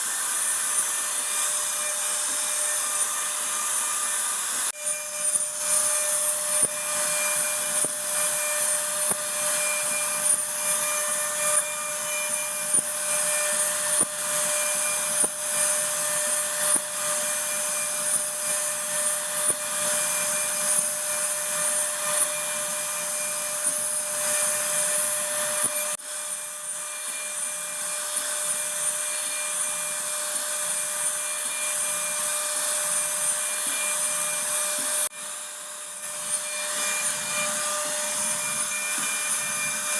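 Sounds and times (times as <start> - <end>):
cnc router spindle whine: 0.0 - 39.9
router cutting into wood: 0.0 - 39.9.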